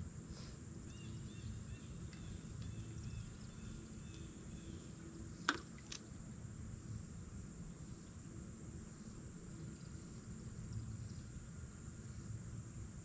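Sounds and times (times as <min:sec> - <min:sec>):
insects droning: 0:00.0 - 0:13.0
wind: 0:00.0 - 0:13.0.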